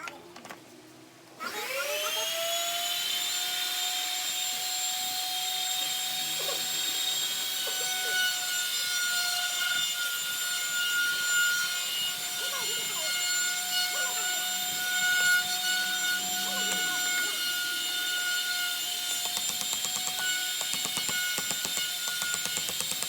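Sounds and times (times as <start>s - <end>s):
power tool whine: 1.4s - 23.0s.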